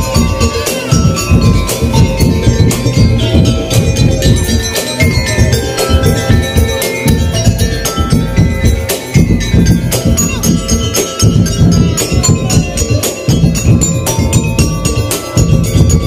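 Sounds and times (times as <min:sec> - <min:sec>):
percussion ensemble playing: 0:00.0 - 0:16.0
ringing pitched notes: 0:00.0 - 0:16.0.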